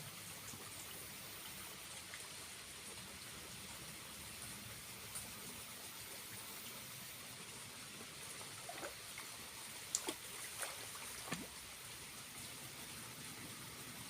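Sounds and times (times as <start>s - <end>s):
small waterfall trickling: 0.0s - 14.0s.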